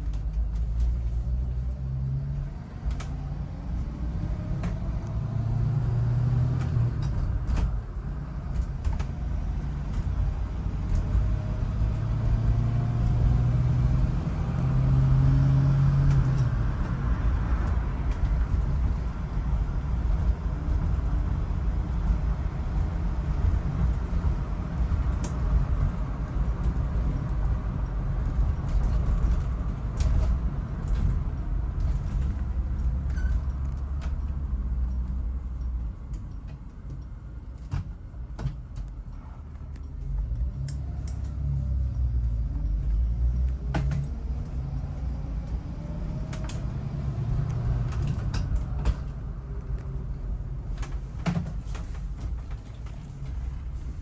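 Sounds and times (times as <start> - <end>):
sharp clicks and knocks: 0.0 - 14.0, 19.9 - 54.0
engine and road rumble: 0.0 - 54.0.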